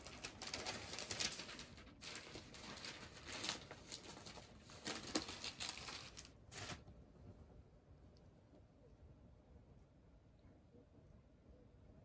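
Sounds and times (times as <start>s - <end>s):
faint rustling and crinkling: 0.0s - 10.0s.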